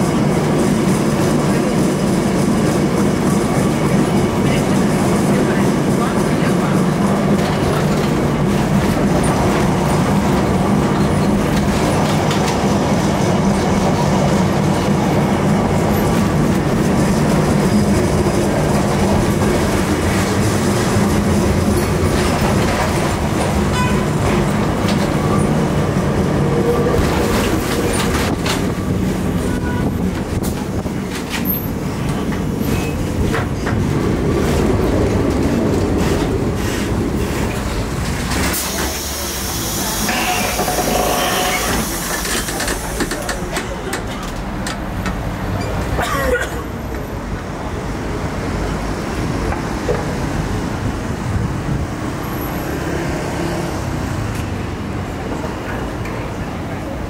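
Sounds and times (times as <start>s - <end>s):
tram motor and wheels rumbling: 0.0s - 57.0s.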